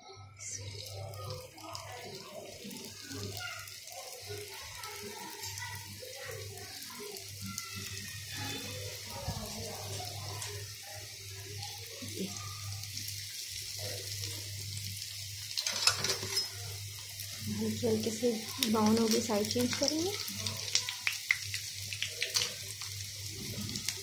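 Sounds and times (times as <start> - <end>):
food sizzling in hot oil: 0.1 - 24.0.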